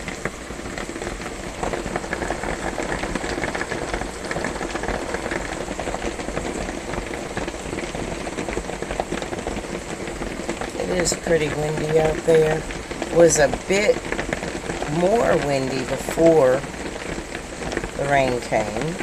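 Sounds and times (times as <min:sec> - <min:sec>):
rain on a metal roof: 0:00.0 - 0:19.0
room fan humming: 0:00.0 - 0:19.0.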